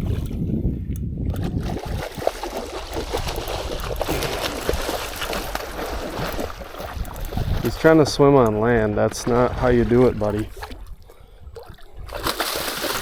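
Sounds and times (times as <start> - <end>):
water: 0.0 - 13.0
wind: 0.0 - 13.0
fish thrashing and slapping: 1.3 - 13.0.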